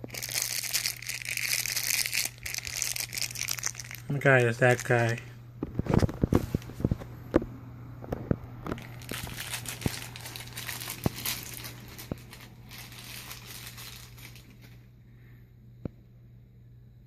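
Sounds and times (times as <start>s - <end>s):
packaging crinkling and rustling: 0.0s - 7.1s, 8.1s - 14.8s.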